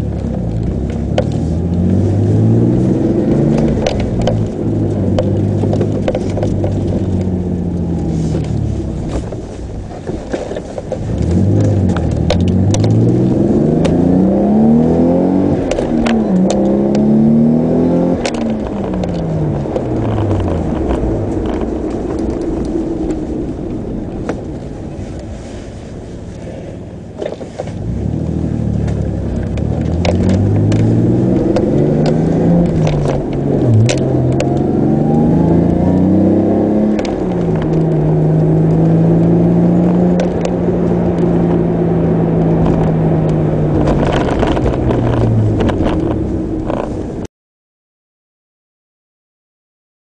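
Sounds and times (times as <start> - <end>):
car engine revving: 0.0 - 47.3
exhaust crackles: 0.0 - 47.3.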